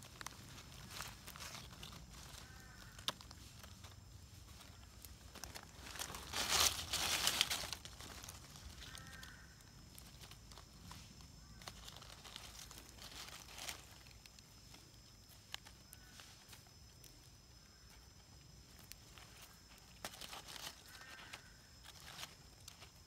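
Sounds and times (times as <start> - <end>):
dry leaves crunching and rustling: 0.0 - 23.0.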